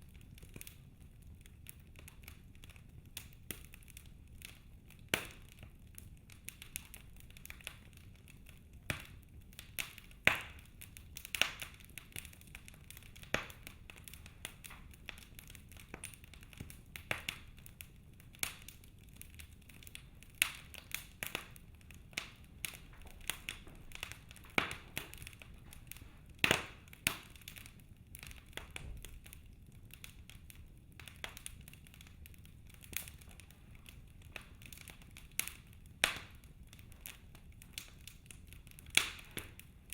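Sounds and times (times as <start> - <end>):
fire crackling and popping: 0.0 - 39.9
fire low rumble: 0.0 - 39.9.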